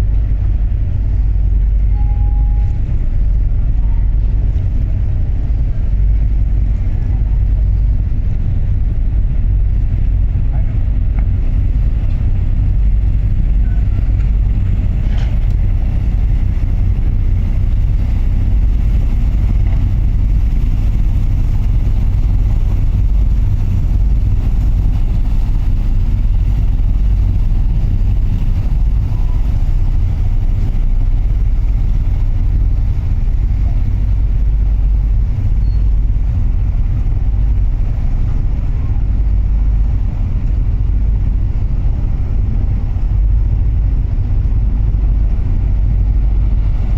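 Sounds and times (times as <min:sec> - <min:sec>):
ship engines rumbling: 0:00.0 - 0:46.9.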